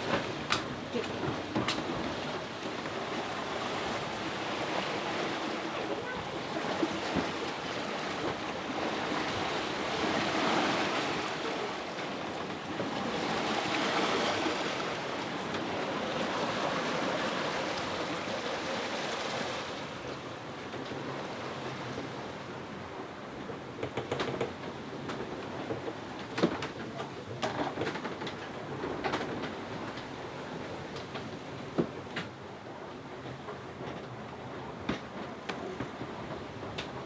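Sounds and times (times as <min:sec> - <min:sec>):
water rushing along boat hull: 0:00.0 - 0:37.0.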